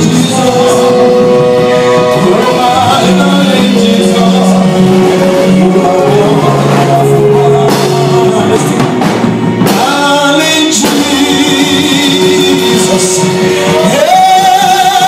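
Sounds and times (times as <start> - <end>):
gospel band playing: 0.0 - 15.0
person singing: 0.0 - 15.0.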